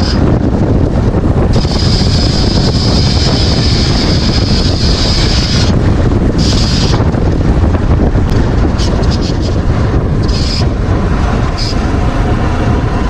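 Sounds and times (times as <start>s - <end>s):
deep rumble: 0.0s - 13.0s
wind buffeting microphone: 0.0s - 13.0s.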